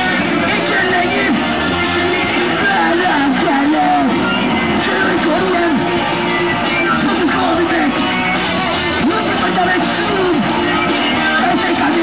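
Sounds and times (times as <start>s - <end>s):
distorted electric guitar: 0.0s - 12.0s
drum kit: 0.0s - 12.0s
vocalist shouting: 0.0s - 12.0s.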